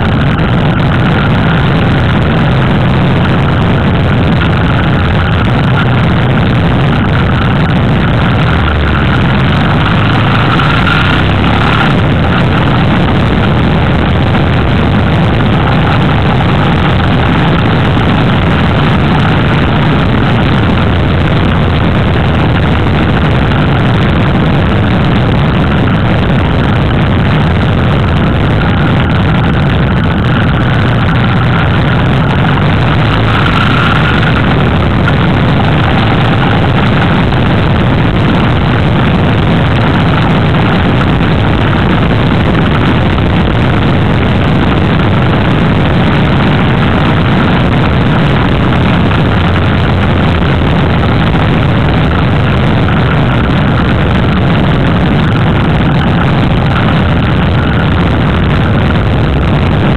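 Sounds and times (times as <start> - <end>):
motorcycle engine drone: 0.0 - 59.9
wind and road rush: 0.0 - 59.9.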